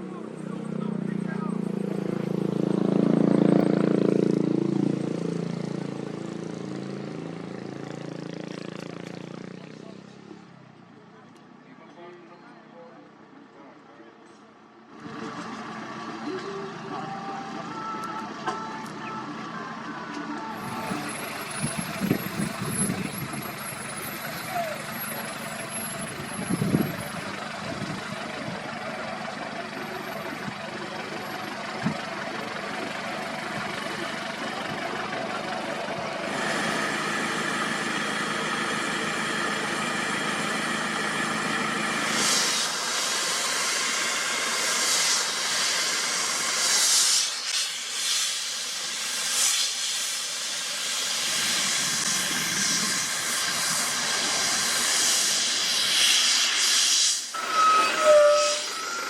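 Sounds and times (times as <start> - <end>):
paving machinery engine hum: 0.0 - 59.0.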